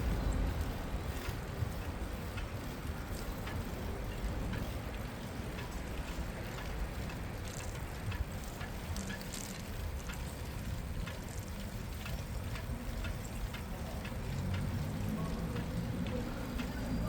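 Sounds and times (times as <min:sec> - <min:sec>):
light clicks and ticks: 0:00.0 - 0:17.0
low street rumble: 0:00.0 - 0:17.0.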